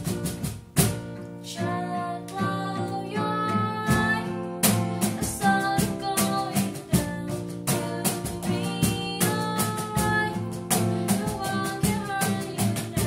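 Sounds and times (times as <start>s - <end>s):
song with plucked guitar and singing: 0.0s - 13.0s.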